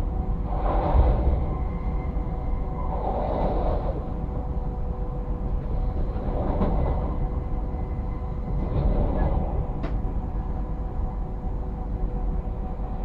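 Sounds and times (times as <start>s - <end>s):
train rail rumble: 0.0s - 13.0s.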